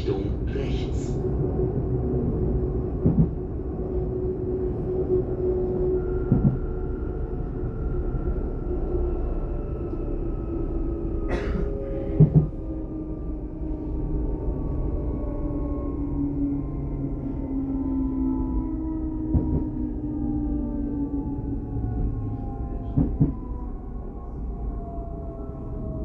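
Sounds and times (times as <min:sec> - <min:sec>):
train carriage rumble: 0:00.0 - 0:26.0.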